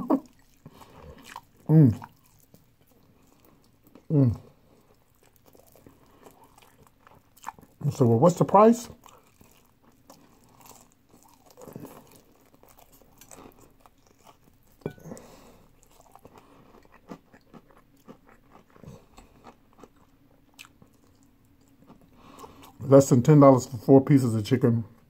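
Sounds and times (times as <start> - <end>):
crunching fried chicken: 0.0 - 22.9
wet chewing: 0.1 - 7.8, 8.9 - 22.8.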